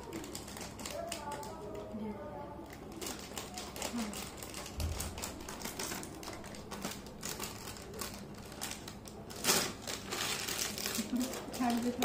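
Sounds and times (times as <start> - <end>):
packet rustling: 0.0 - 1.8, 2.7 - 12.0
scissors snipping plastic packet: 0.0 - 1.8, 2.7 - 12.0.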